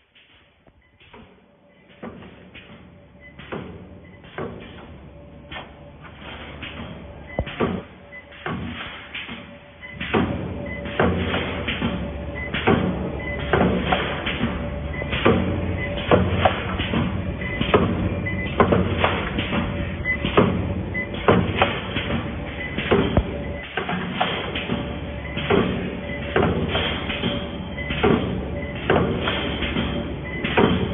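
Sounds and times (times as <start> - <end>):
steady machine hum: 0.0 - 30.9
sharp mechanical clunks: 0.2 - 30.9.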